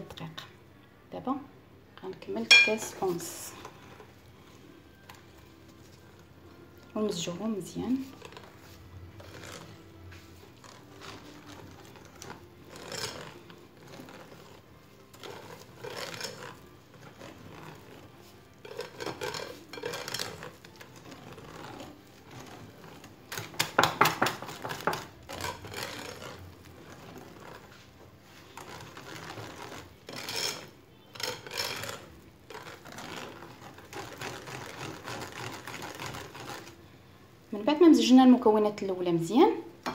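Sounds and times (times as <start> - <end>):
whisk beating batter in glass bowl: 2.5 - 36.8.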